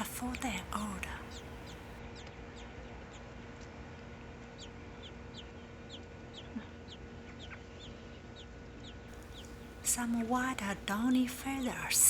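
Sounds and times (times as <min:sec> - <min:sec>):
small bird chirping: 0:00.0 - 0:03.3, 0:04.5 - 0:12.0
low steady hum: 0:00.0 - 0:12.0.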